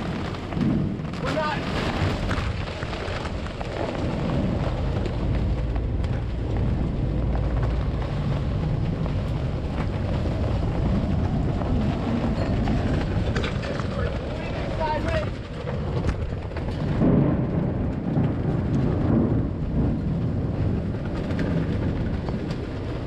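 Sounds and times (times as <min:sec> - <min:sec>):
rain: 0:00.0 - 0:23.0
storm wind buffeting microphone: 0:00.0 - 0:23.0.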